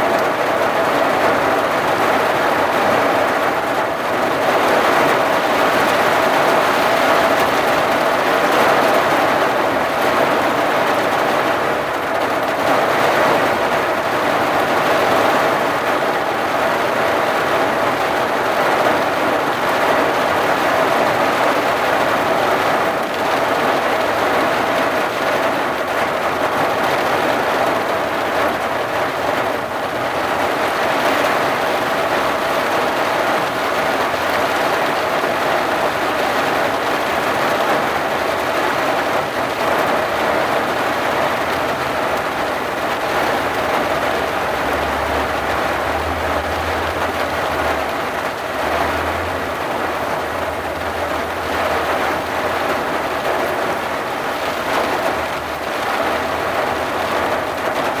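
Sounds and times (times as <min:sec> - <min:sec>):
rain on vehicle windshield: 0:00.0 - 0:58.0.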